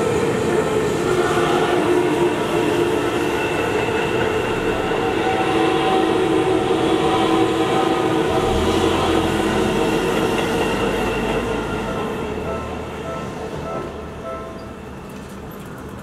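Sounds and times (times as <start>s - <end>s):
electric train rail noise: 0.0s - 16.0s
steady train tones: 0.0s - 16.0s.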